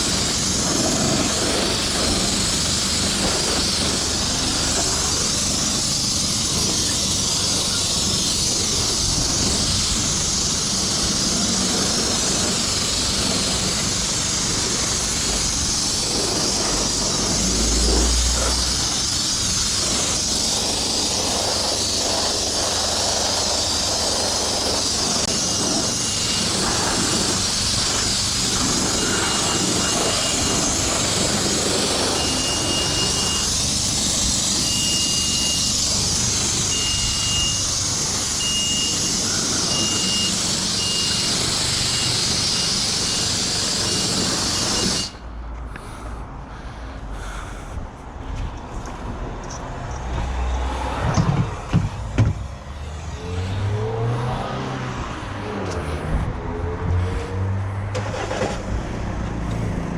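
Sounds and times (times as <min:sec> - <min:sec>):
wind and tyre hiss: 0:00.0 - 0:59.9.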